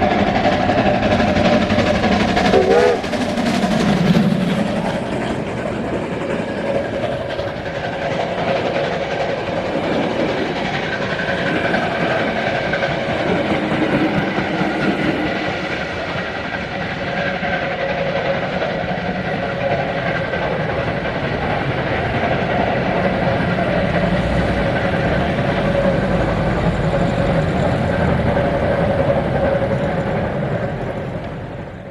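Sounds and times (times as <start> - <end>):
train wheels clattering over rails: 0.0 - 31.9.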